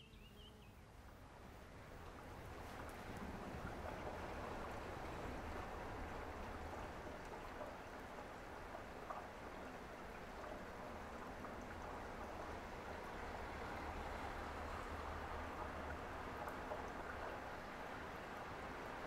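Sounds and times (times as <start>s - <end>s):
faint rain hiss: 0.0s - 19.0s.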